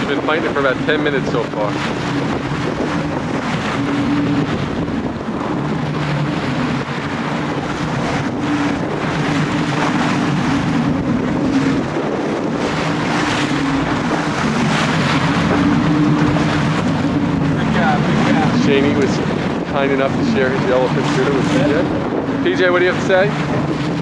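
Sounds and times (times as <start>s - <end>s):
boat engine low hum: 0.0s - 24.0s
sea wash: 0.0s - 24.0s
wind noise on microphone: 0.0s - 24.0s.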